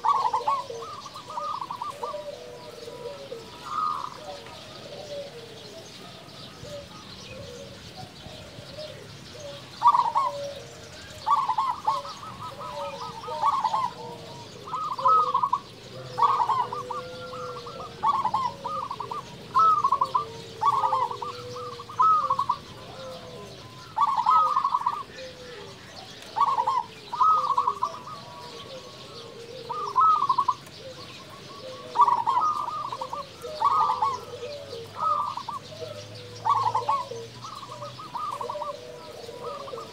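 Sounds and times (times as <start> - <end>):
dove trilling coos: 0.0 - 39.9
other birds calling: 0.0 - 39.9.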